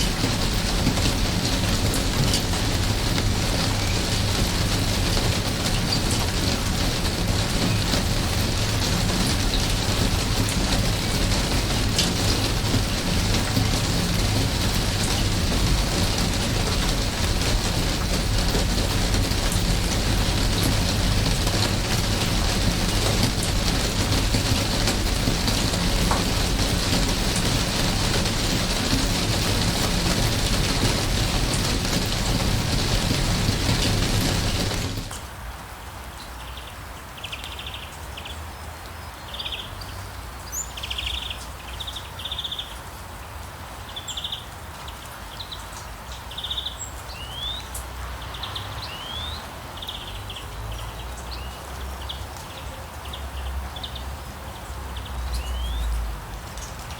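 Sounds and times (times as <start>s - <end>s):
heavy rain: 0.0s - 56.9s.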